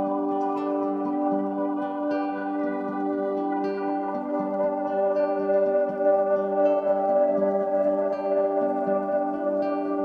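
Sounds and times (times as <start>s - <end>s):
soft ambient instrumental music: 0.0s - 10.0s.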